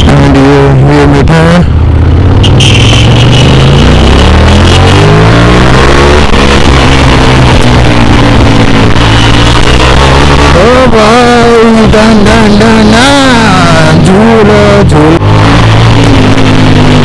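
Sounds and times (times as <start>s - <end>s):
motorcycle engine accelerating: 0.0s - 17.0s
road noise: 0.0s - 17.0s.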